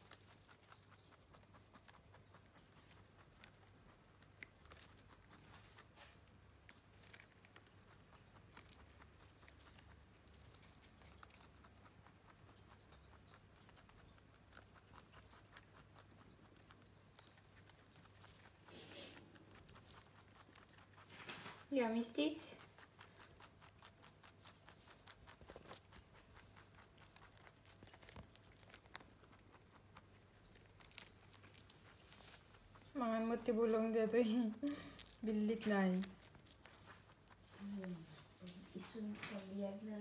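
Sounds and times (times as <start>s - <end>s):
rabbit chewing greens: 0.0s - 40.0s.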